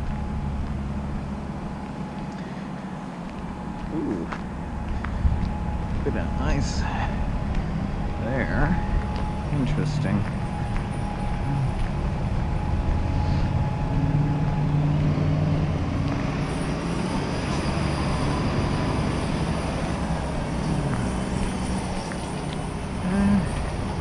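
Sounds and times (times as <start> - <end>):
low motor hum: 0.0 - 24.0
transit vehicle rumbling: 0.0 - 24.0.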